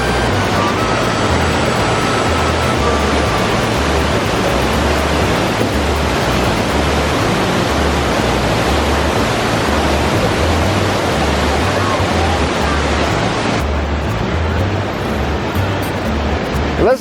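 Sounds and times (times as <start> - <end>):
low rumble: 0.0 - 16.9
waterfall rushing: 0.0 - 17.0.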